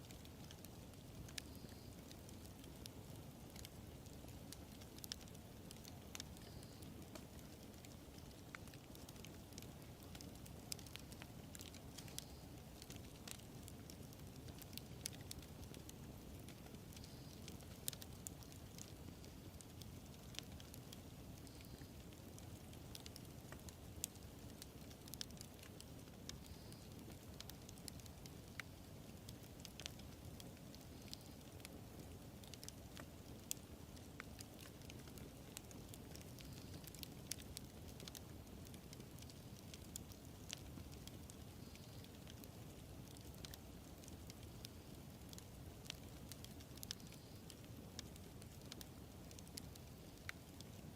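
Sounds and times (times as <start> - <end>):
fire low rumble: 0.0 - 50.9
wood fire crackling and popping: 0.0 - 50.9.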